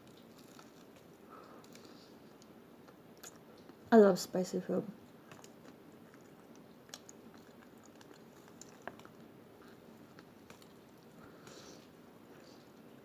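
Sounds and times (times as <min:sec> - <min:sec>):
faint chewing: 0:00.0 - 0:03.8, 0:05.0 - 0:13.0.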